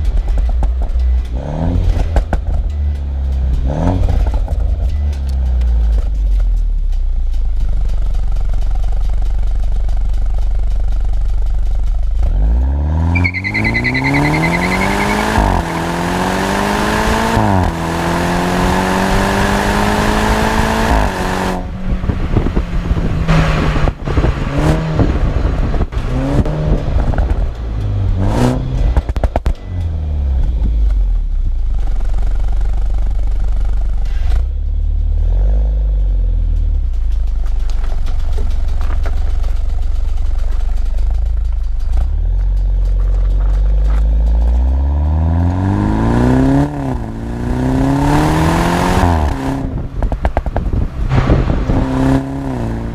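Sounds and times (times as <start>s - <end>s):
car engine idling and accelerating: 0.0s - 52.9s
exhaust pops and crackles: 0.0s - 52.9s.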